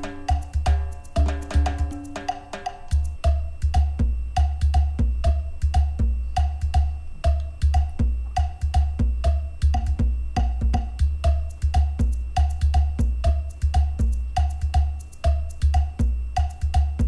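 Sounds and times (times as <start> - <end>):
background music with steady beat: 0.0 - 17.0
deep bass: 2.9 - 17.0.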